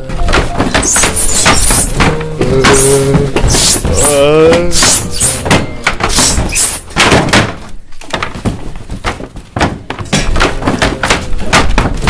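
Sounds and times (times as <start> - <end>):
heavy thuds and bangs: 0.0 - 12.0.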